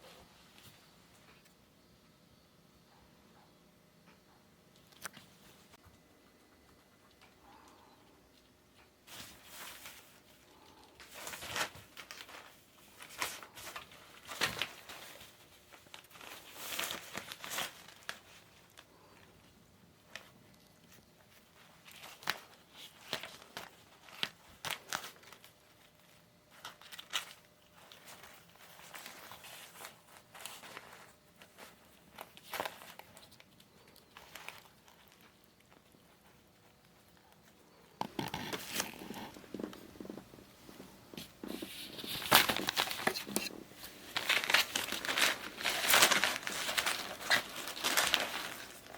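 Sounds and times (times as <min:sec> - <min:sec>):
crinkling and rustling: 0:04.0 - 0:48.9.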